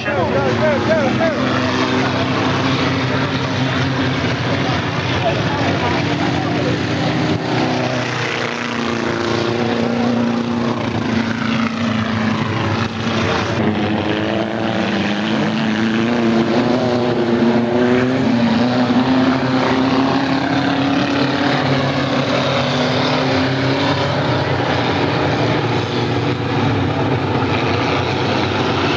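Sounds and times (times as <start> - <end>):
race car engines running hard: 0.0 - 28.9.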